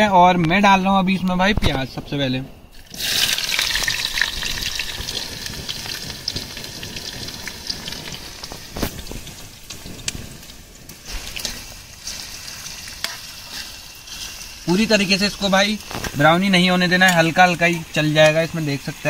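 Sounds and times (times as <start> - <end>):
onions sizzling in oil: 2.7 - 19.0.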